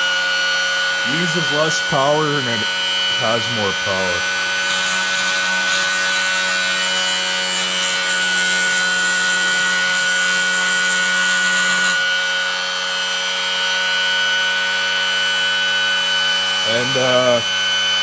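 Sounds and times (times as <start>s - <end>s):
motor spinning with high whine: 0.0s - 18.0s.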